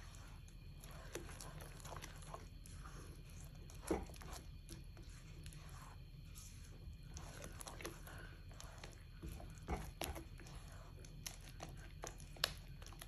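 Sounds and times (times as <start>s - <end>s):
spatula scraping a pan: 0.0s - 12.2s
faint squelching: 0.0s - 13.0s.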